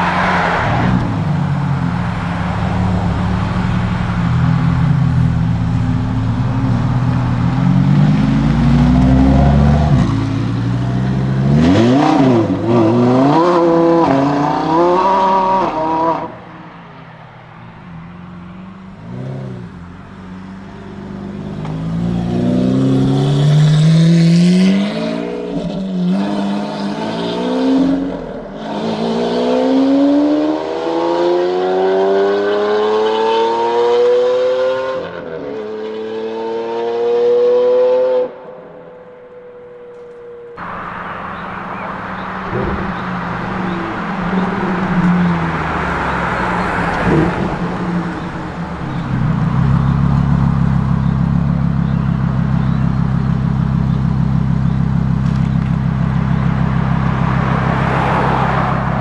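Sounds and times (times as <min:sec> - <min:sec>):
car engine accelerating hard: 0:00.0 - 0:16.6, 0:18.3 - 0:37.9, 0:40.6 - 0:59.0.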